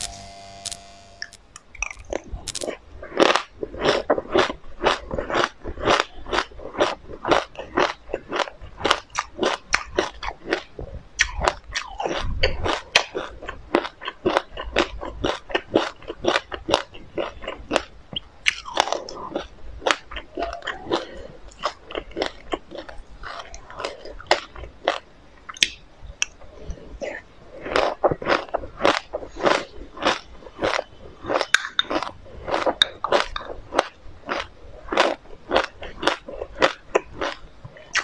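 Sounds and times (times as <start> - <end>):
crisp crunching chews: 0.1 - 25.1, 27.0 - 38.0.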